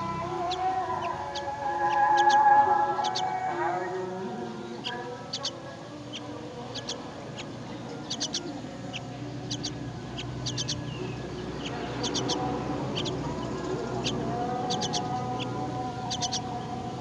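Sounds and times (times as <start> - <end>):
chicks cheeping: 0.0 - 17.0.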